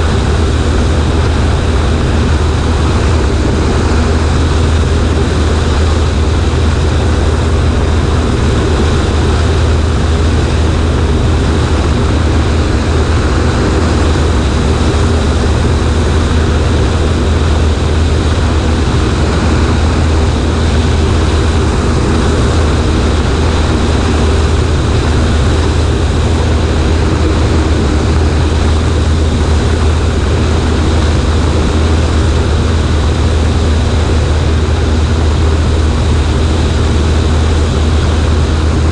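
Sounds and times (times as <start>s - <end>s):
propeller engine droning: 0.0s - 38.9s
rush of air noise: 0.0s - 38.9s.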